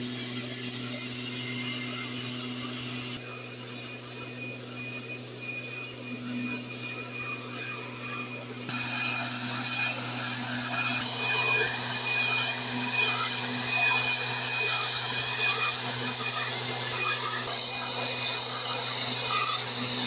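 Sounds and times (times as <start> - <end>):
mist-blower sprayer running: 0.0 - 20.0.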